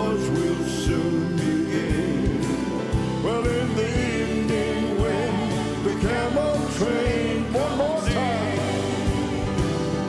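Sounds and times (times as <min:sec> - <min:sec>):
live gospel band music: 0:00.0 - 0:10.0.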